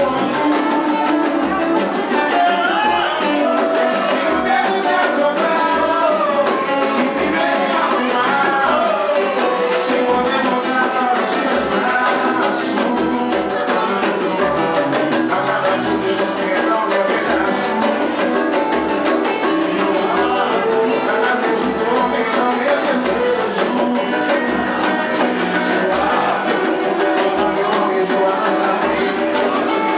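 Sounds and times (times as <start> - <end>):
person singing: 0.0 - 29.9
plucked guitar: 0.0 - 29.9.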